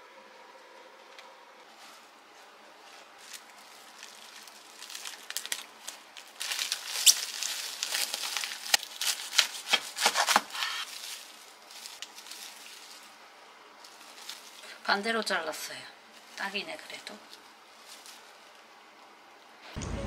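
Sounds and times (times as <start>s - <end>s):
cling wrap crinkling: 0.9s - 18.8s.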